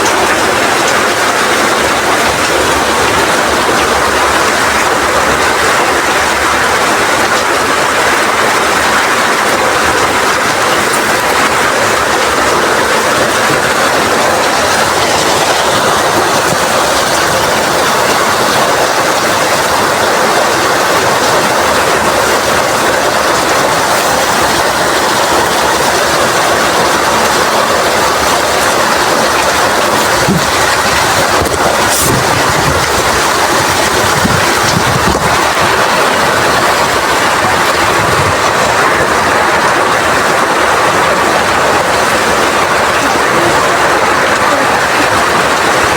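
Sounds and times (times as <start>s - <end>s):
heavy rain in strong wind: 0.0s - 45.9s.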